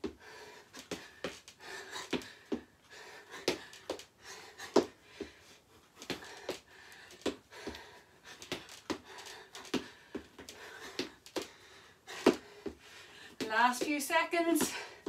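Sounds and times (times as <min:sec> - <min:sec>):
hard breathing: 0:00.0 - 0:13.4.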